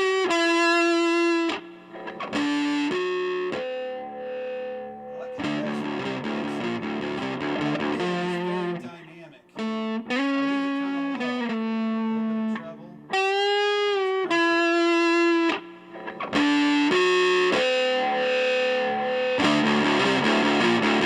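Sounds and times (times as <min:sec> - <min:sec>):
distorted electric guitar lead: 0:00.0 - 0:21.0.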